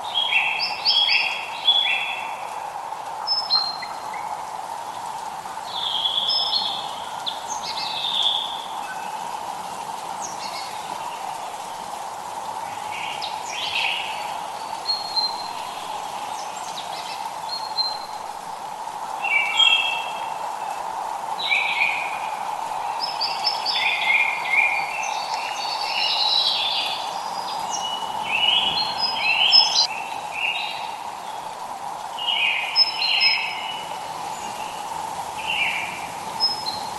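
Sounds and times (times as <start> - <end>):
songbirds chirping and singing: 0.0 - 5.0, 5.6 - 18.2, 19.1 - 36.9
light rain hiss: 0.0 - 36.9.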